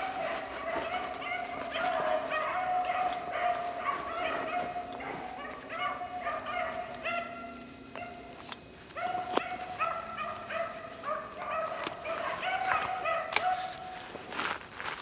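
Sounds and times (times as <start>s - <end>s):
hounds baying: 0.0s - 14.2s.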